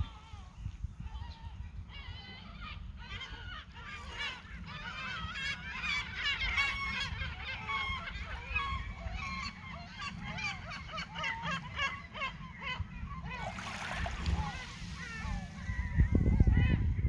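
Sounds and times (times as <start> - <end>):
calm sea washing: 0.0 - 17.0
seagulls calling: 0.0 - 17.0.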